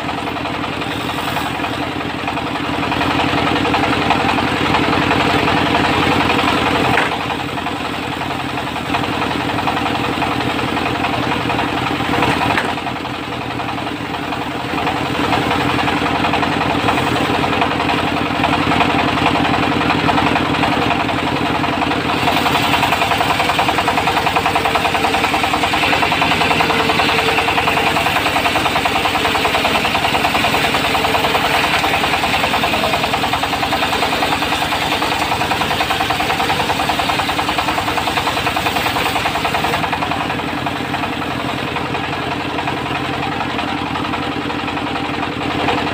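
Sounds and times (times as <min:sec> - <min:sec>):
diesel engine running steadily: 0:00.0 - 0:45.9.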